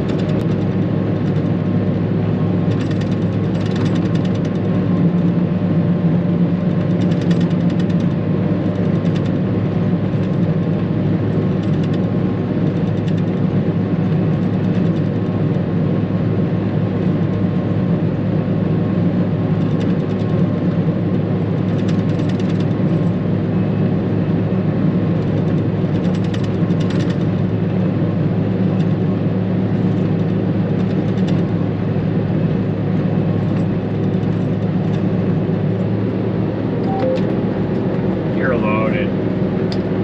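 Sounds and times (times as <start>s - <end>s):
diesel machinery engine drone: 0.0s - 40.0s.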